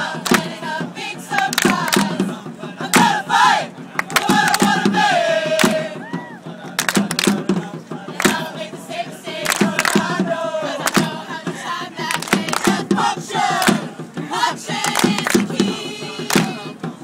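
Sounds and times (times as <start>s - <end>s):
sharp percussive hits: 0.0s - 5.9s, 6.7s - 16.8s
choir singing: 0.0s - 17.0s.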